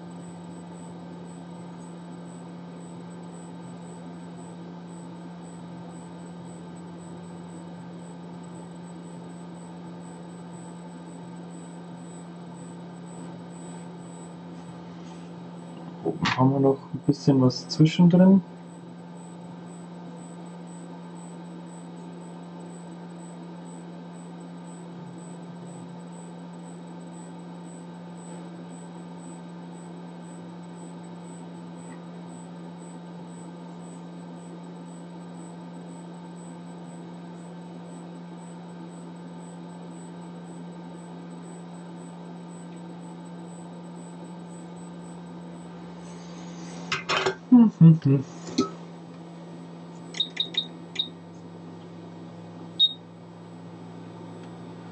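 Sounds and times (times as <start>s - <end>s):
low electrical hum: 0.0s - 54.9s.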